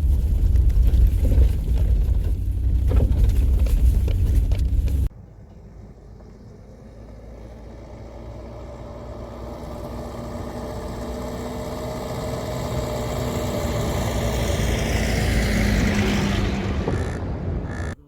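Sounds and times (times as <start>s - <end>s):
vehicle engine approaching: 0.0s - 18.0s.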